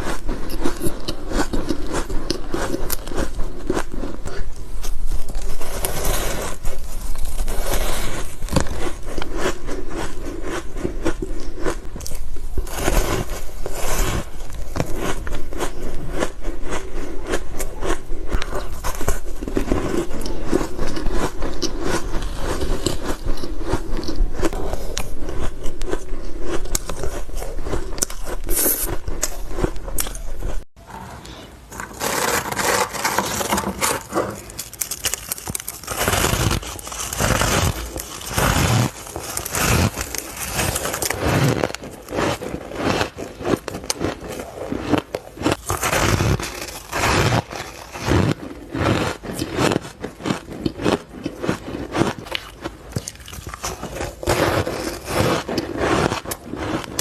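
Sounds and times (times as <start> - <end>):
crunching of ice: 0.0 - 30.7, 31.7 - 57.0.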